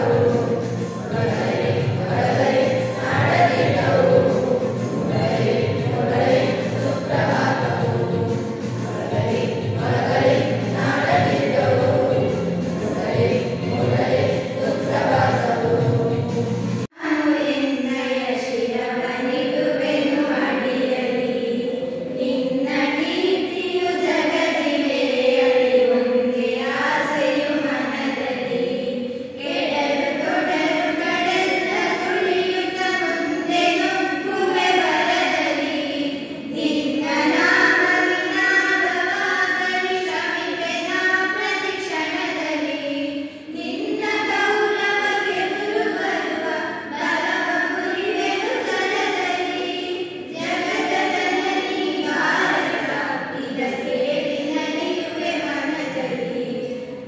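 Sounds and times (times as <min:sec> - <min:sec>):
girls singing together: 0:00.0 - 0:57.0.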